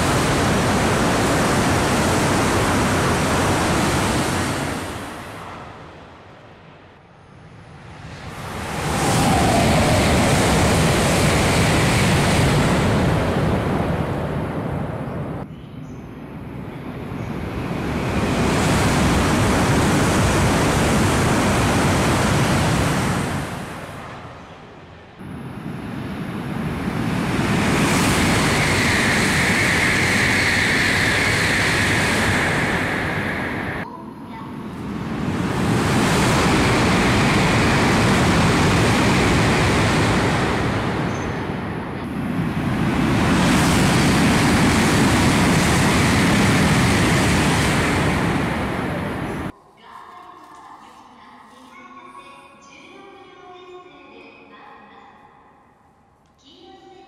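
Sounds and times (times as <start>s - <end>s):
train passing at speed: 0.0s - 49.6s.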